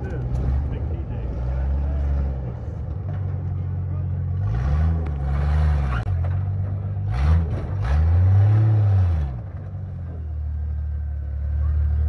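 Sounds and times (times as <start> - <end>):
engine revving: 0.0 - 9.7.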